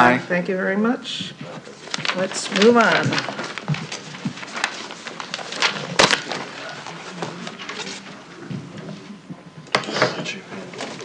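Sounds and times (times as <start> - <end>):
murmur of activity: 0.0 - 11.0.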